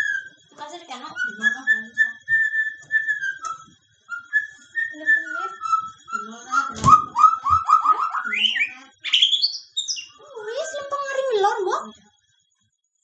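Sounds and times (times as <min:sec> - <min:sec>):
bird singing whistled notes: 0:00.0 - 0:12.0.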